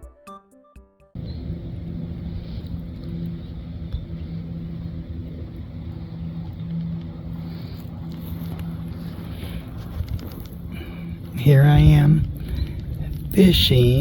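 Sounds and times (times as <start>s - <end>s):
motorboat engine droning: 1.2s - 14.0s.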